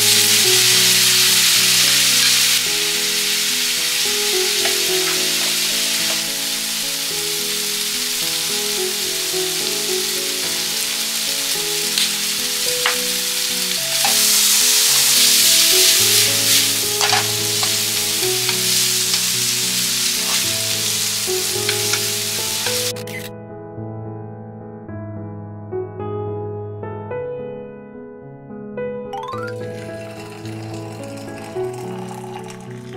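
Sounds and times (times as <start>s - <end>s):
background music: 0.0s - 23.3s, 29.1s - 32.9s
food sizzling in a frying pan: 0.0s - 23.3s, 29.3s - 32.9s.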